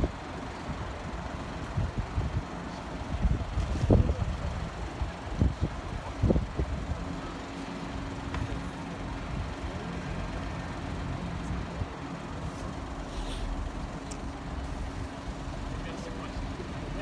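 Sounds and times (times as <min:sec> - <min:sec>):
diesel train engine droning: 0:00.0 - 0:17.0.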